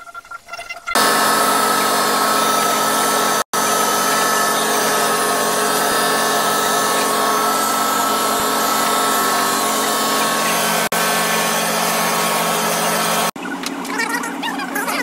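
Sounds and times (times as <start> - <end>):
sanding machine motor whine: 1.0 - 13.4.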